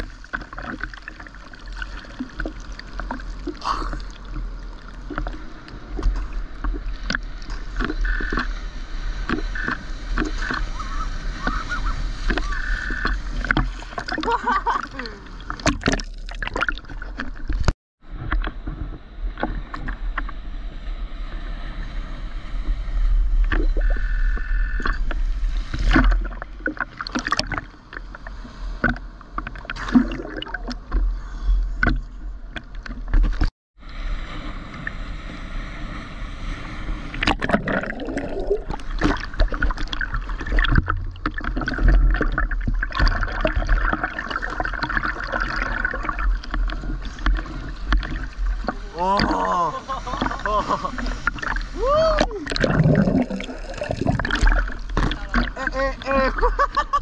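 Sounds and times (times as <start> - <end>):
sea water splashing: 0.0 - 20.2, 21.1 - 31.2, 31.8 - 57.0.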